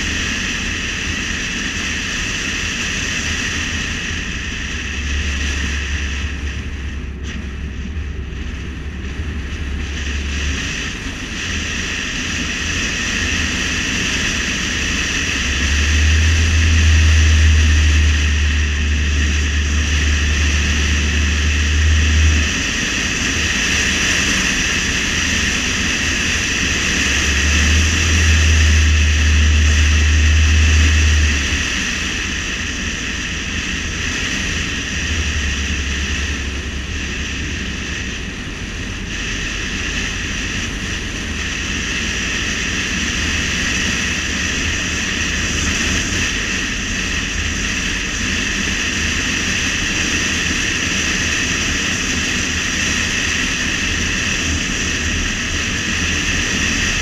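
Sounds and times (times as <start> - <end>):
car road and wind noise: 0.0 - 57.0
low rumble: 0.0 - 57.0.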